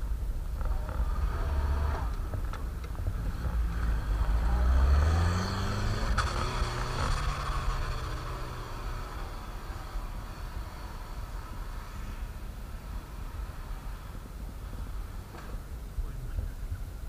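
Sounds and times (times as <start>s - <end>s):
off-road vehicle engine revving: 0.6s - 15.7s.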